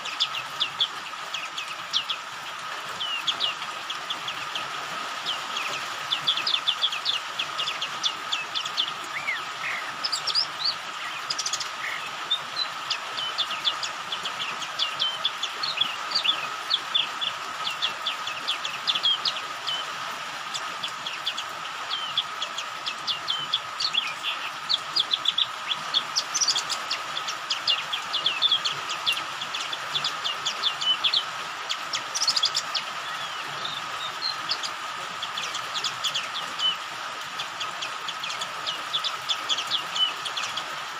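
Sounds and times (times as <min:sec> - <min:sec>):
bird chirping and twittering: 0:00.0 - 0:40.9
rain hiss: 0:00.0 - 0:40.9.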